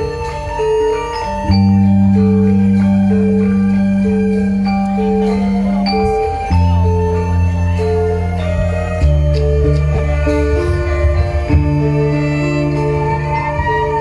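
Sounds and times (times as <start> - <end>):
deep steady bass tone: 0.0 - 14.0
metal mallet instruments: 0.0 - 14.0.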